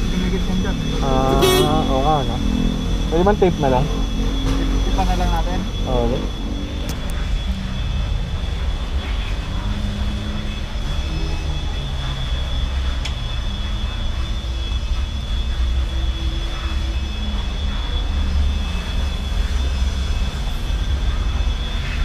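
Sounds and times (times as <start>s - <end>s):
high-pitched whine: 0.0s - 22.0s.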